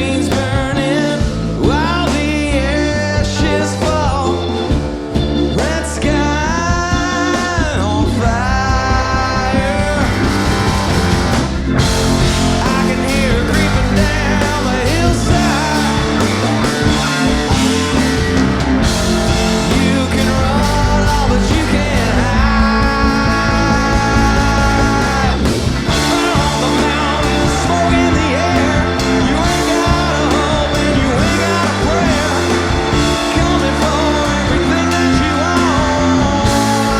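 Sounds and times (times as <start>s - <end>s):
live rock band playing: 0.0s - 36.9s
pitch-bending lead guitar line: 0.0s - 36.9s.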